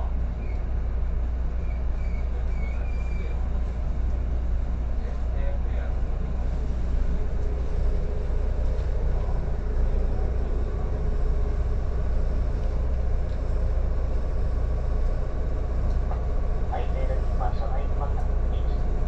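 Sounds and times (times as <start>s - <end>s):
electric train rolling: 0.0s - 19.0s.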